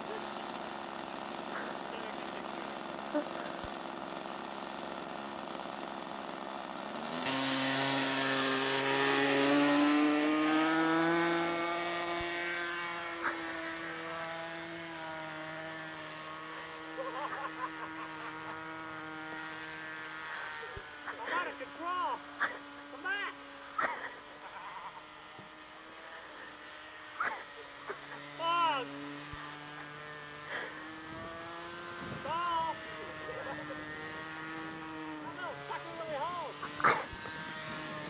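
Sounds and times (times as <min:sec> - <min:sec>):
model airplane engine buzzing: 0:00.0 - 0:38.0.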